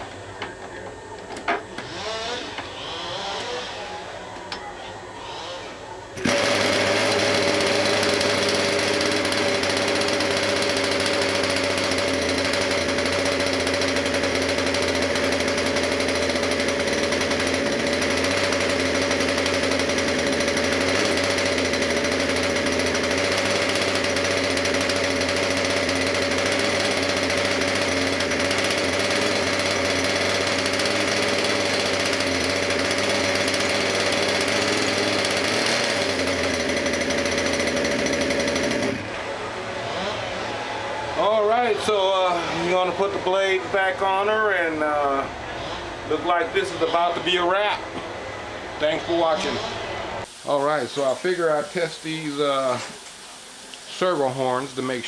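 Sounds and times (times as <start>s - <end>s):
model helicopter engine droning: 0.0s - 47.5s.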